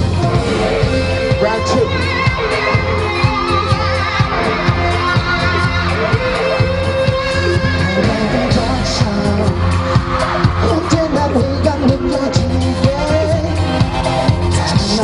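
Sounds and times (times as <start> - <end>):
person singing: 0.0 - 15.0
pop music with heavy beat: 0.0 - 15.0.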